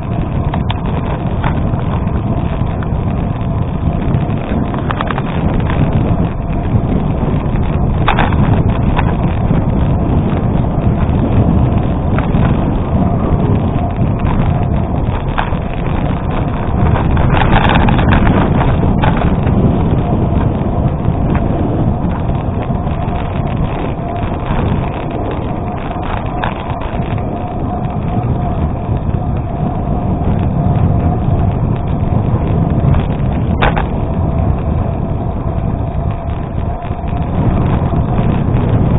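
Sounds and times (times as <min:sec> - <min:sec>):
bike tyres rolling on gravel: 0:00.0 - 0:38.9
wind buffeting microphone: 0:00.0 - 0:38.9.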